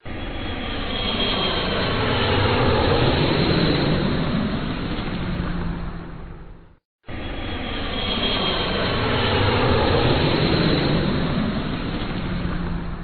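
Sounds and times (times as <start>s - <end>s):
airplane engine rush: 0.0s - 13.0s.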